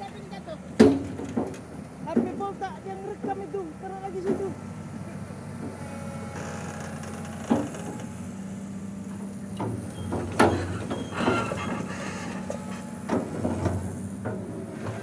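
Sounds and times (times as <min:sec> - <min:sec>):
excavator diesel engine running: 0:01.6 - 0:15.0.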